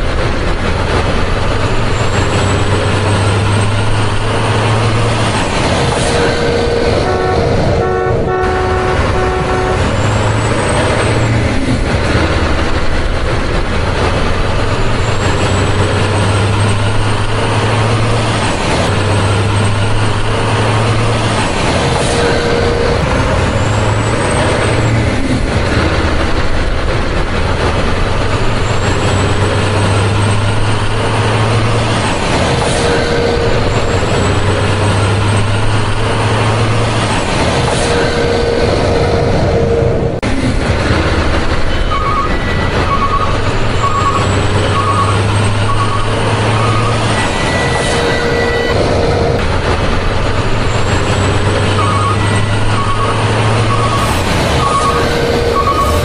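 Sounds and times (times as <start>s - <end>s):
heavy truck engine rumbling: 0.0s - 56.0s.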